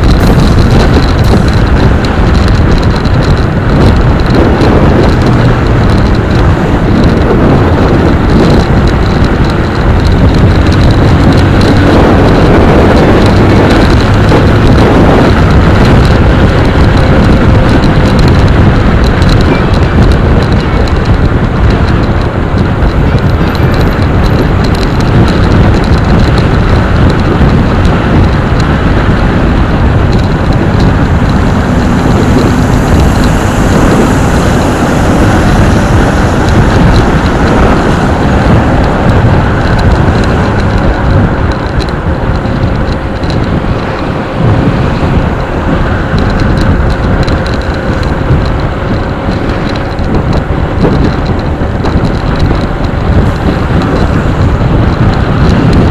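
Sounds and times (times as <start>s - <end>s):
motorcycle engine running: 0.0s - 55.9s
wind rushing over microphone: 0.0s - 55.9s.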